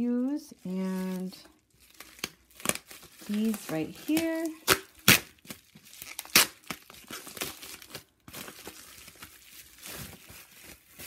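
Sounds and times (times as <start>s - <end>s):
bubble wrap crinkling and tearing: 0.0s - 11.0s.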